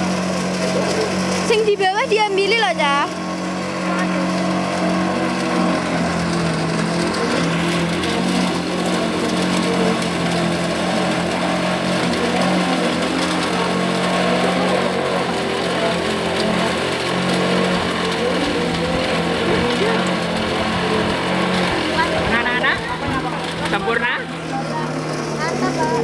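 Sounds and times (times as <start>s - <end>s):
grinder machine humming: 0.0s - 26.0s.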